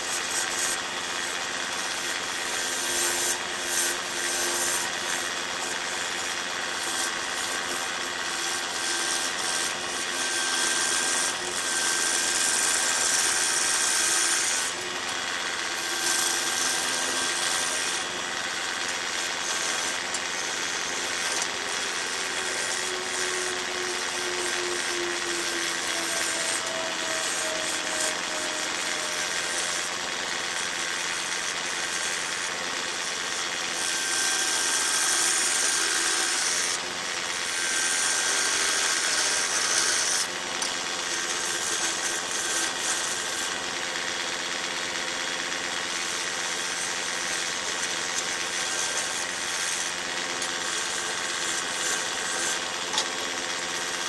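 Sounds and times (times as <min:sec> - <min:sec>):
lathe humming: 0:00.0 - 0:54.0.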